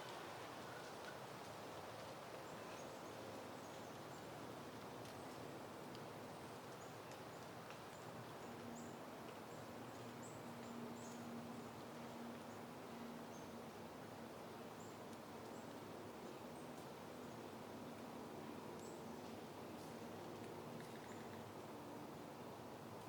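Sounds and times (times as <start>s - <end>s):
soft wind: 0.0s - 23.0s.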